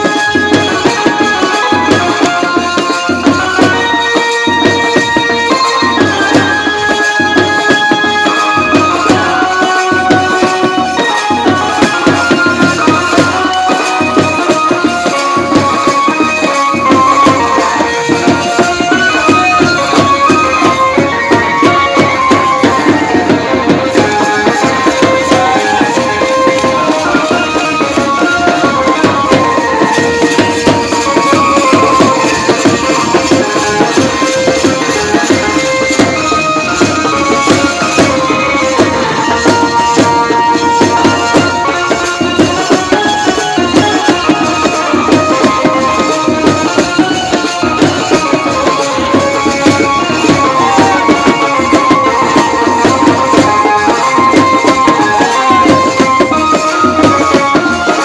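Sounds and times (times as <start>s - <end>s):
drum beating fast rhythm: 0.0s - 58.0s.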